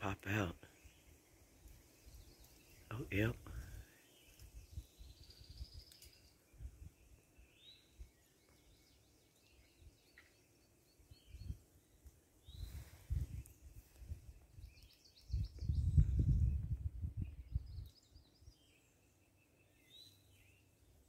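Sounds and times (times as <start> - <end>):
faint songbird chirps: 0.0 - 21.0.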